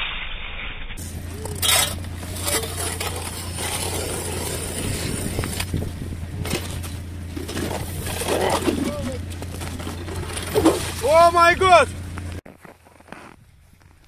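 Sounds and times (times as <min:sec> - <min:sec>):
ice auger scraping ice: 0:01.0 - 0:13.4.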